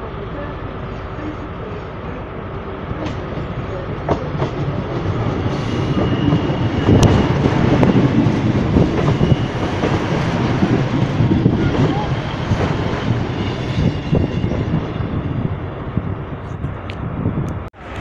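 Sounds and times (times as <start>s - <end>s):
diesel train approaching: 0.0s - 18.0s.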